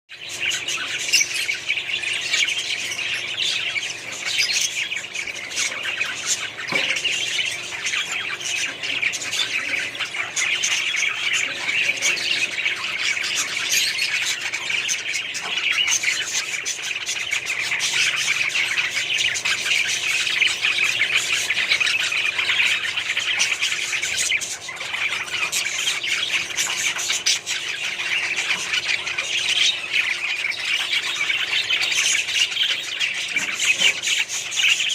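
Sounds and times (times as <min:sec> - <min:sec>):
parrots squawking and chirping: 0:00.1 - 0:34.9.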